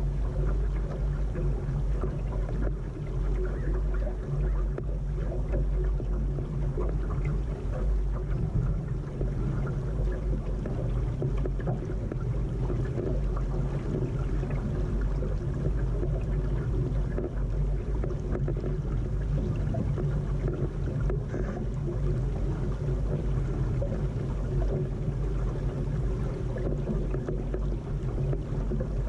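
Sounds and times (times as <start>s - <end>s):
steady low rumble: 0.0s - 29.0s
water lapping along hull: 0.0s - 29.0s.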